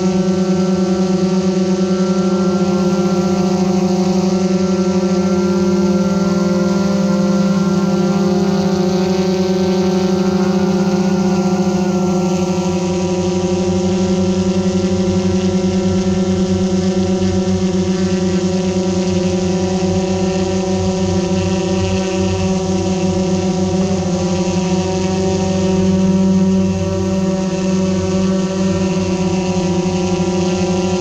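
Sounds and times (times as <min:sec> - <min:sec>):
aircraft engine drone: 0:00.0 - 0:31.0.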